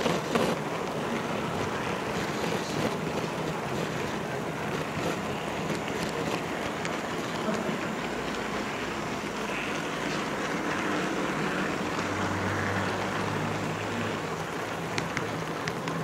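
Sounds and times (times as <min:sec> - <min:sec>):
model train car rolling on track: 0:00.0 - 0:16.0.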